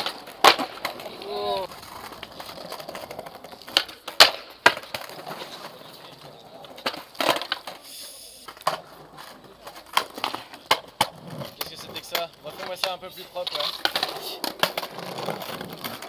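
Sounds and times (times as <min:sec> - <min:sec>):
wheels rolling over stone: 0:00.0 - 0:07.9, 0:08.5 - 0:16.0
skateboards clacking: 0:00.0 - 0:16.0.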